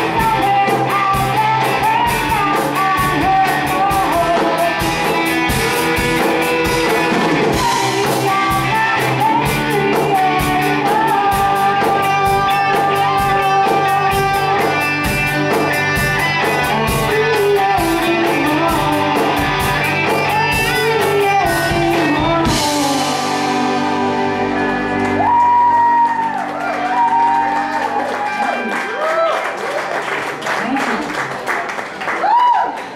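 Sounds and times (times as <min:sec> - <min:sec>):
drum kit: 0:00.0 - 0:28.4
distorted electric guitars: 0:00.0 - 0:28.7
keyboard: 0:00.0 - 0:29.0
bass: 0:00.0 - 0:31.3.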